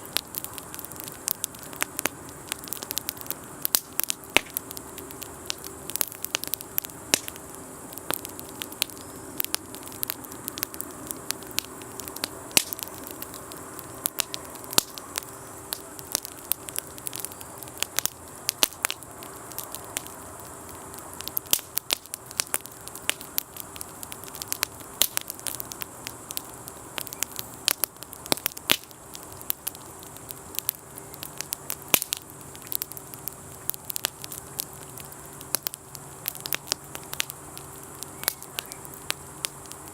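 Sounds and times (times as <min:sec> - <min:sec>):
campfire crackling: 0:00.0 - 0:39.9
sharp pops of fire: 0:00.0 - 0:39.9.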